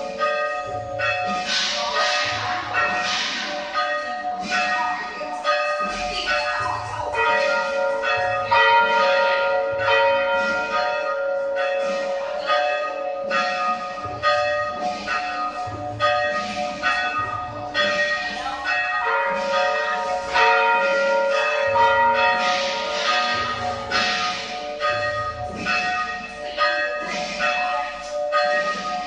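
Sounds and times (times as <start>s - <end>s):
church bells tolling: 0.0s - 29.0s.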